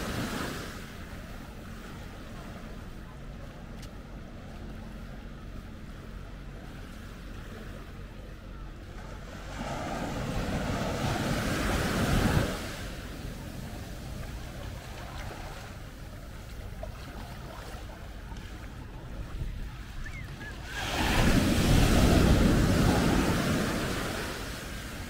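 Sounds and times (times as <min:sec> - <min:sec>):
waves breaking on sand: 0:00.0 - 0:25.0.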